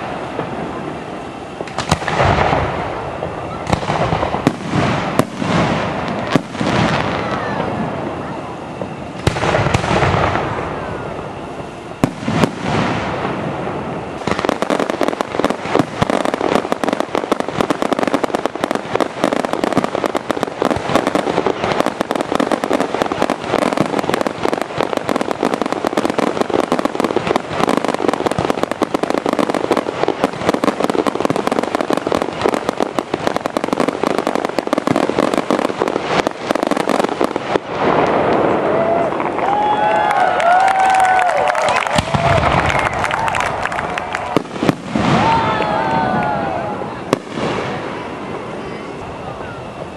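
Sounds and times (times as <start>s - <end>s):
fireworks bangs and crackle: 0.0s - 49.9s.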